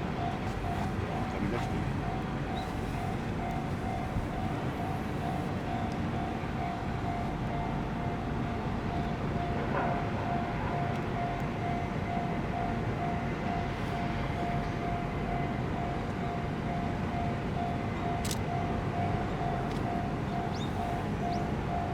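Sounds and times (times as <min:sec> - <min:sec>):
diesel locomotive rumble: 0:00.0 - 0:21.9.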